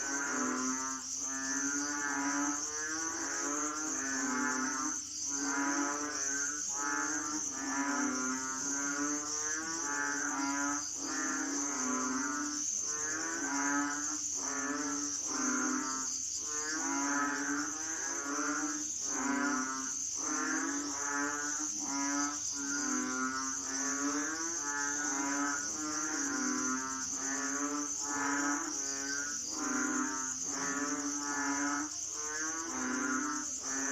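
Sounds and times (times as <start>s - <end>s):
frogs croaking: 0.0s - 33.9s
insect drone: 0.0s - 33.9s.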